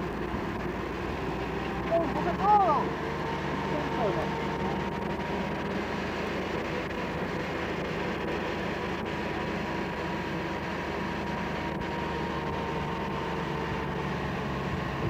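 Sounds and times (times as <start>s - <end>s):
off-road engine running: 0.0s - 15.0s
thin steady whine: 0.0s - 15.0s.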